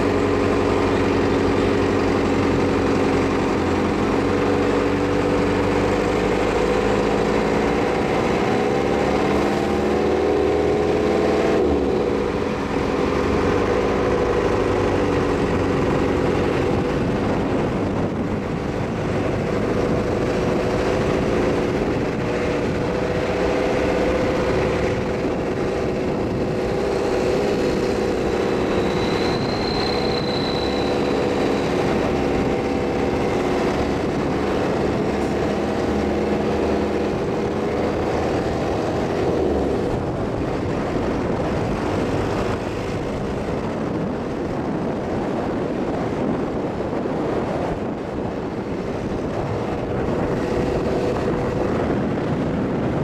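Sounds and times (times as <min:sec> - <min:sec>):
road and wind noise: 0:00.0 - 0:53.0
vehicle engine running: 0:00.0 - 0:53.0.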